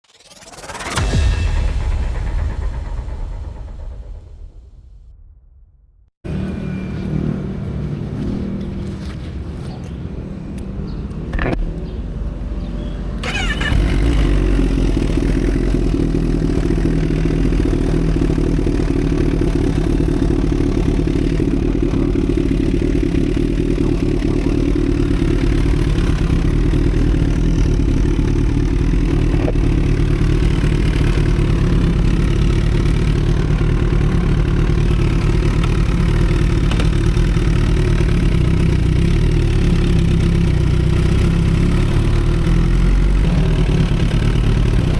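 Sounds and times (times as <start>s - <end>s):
motorcycle engine starting and idling: 6.3s - 44.9s.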